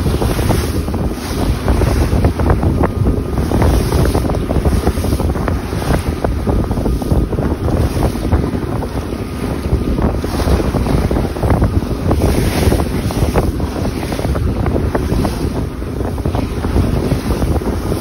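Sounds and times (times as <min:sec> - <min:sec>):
water splashing along hull: 0:00.0 - 0:18.0
wind buffeting microphone: 0:00.0 - 0:18.0.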